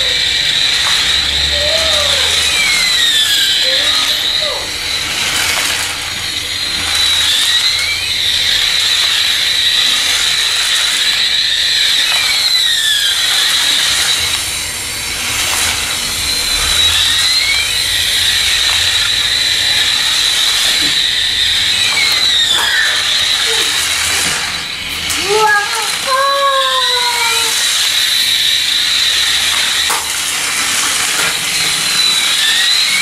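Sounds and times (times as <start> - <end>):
toy jet engine sound effect: 0.0 - 33.0.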